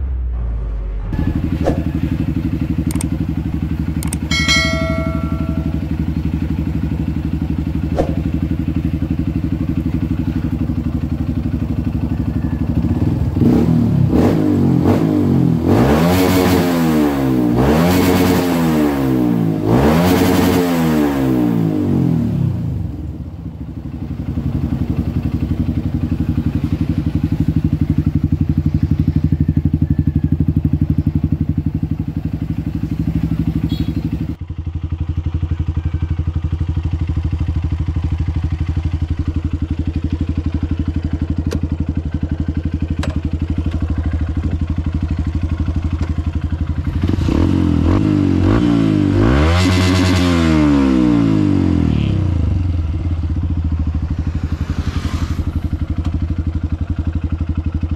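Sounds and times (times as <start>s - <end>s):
motorcycle engine at high revs: 1.2s - 57.9s.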